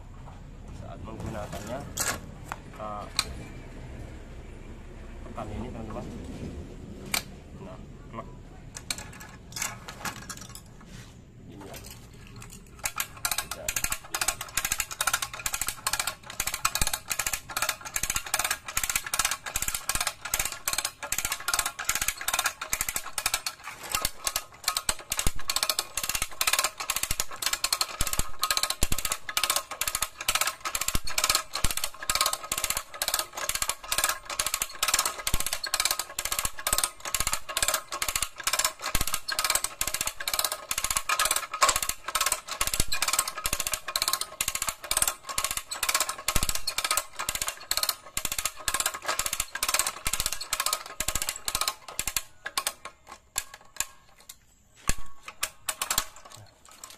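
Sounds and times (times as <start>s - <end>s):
winch ratchet clicking: 8.8s - 10.7s, 11.7s - 56.9s.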